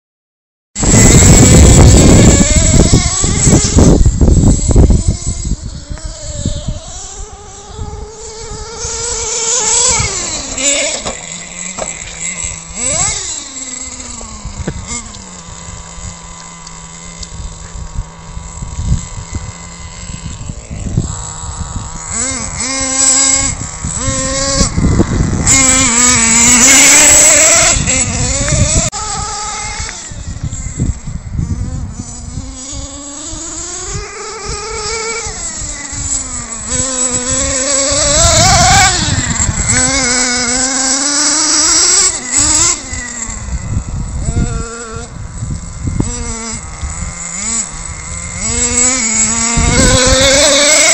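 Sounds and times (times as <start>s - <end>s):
toy truck engine revving: 0.8s - 50.9s.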